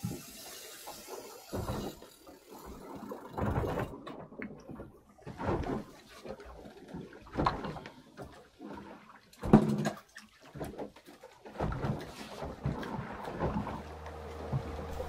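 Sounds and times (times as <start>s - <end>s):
water slapping against boat hull: 2.7s - 15.0s.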